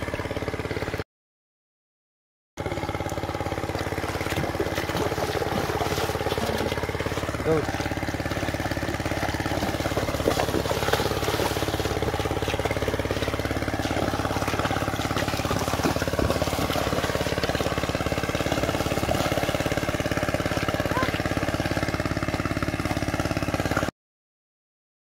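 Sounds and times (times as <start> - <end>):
small engine chugging: 0.0 - 1.0, 2.6 - 23.9.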